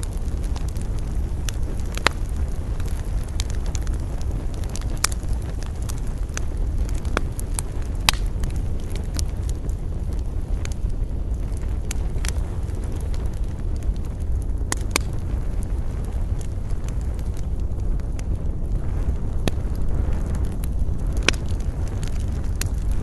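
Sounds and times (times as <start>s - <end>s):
campfire crackling and popping: 0.0s - 23.0s
low rumble of wind: 0.0s - 23.0s.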